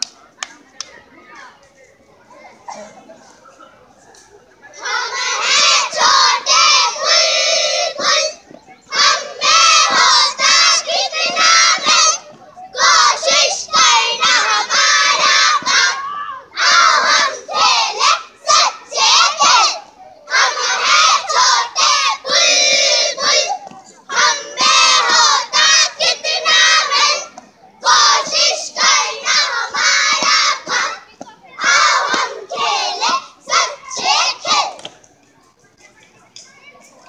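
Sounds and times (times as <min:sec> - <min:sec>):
girls chanting in unison: 0:04.8 - 0:34.9.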